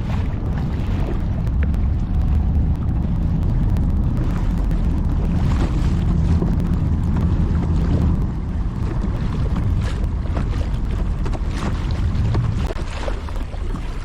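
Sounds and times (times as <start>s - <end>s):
water splashing around hull: 0.0s - 14.0s
wind rumbling on microphone: 0.0s - 14.0s.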